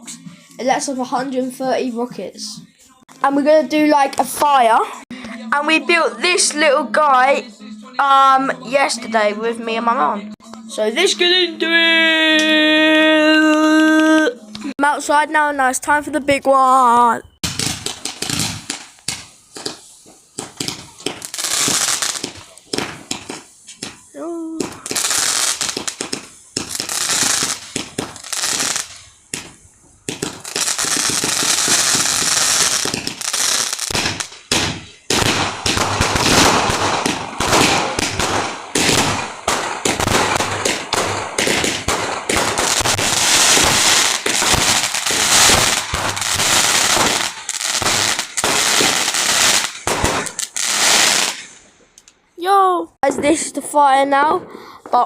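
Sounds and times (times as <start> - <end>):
fireworks banging and crackling: 0.0 - 9.3, 10.0 - 55.0.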